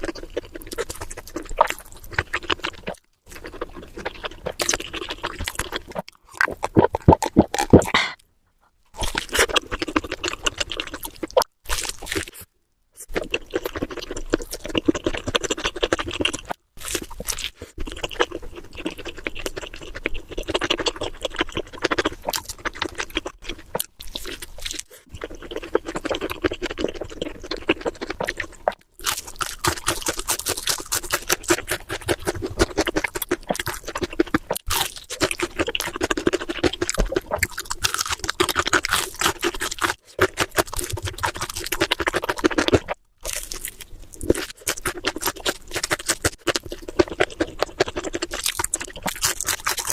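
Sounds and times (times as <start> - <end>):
person chewing and crunching food: 0.0 - 49.9.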